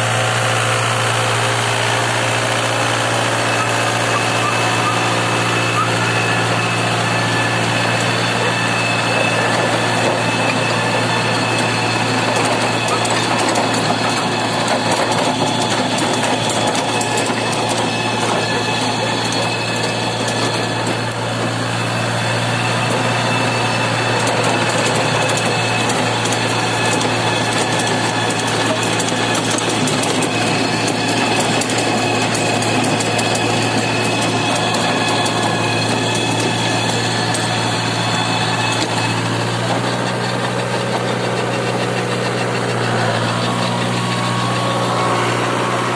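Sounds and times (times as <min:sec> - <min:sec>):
rotary tiller rattling: 0:00.0 - 0:45.9
tractor diesel engine running: 0:00.0 - 0:45.9.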